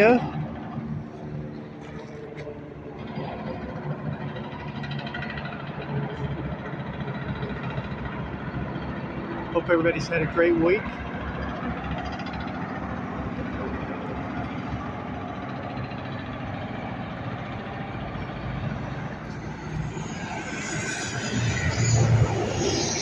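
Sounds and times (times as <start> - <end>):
truck engine approaching: 0.0 - 23.0
vehicle traffic: 0.0 - 23.0.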